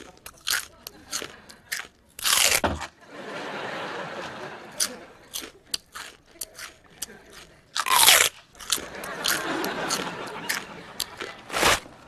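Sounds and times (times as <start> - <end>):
crunching a crunchy snack: 0.0 - 2.9, 4.7 - 12.0.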